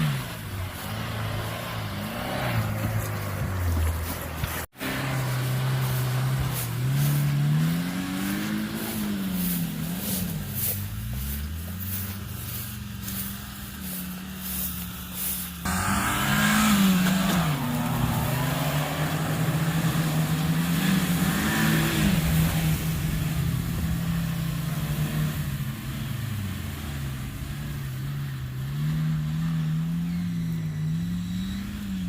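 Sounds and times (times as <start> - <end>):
off-road vehicle engine revving: 0.0 - 32.0.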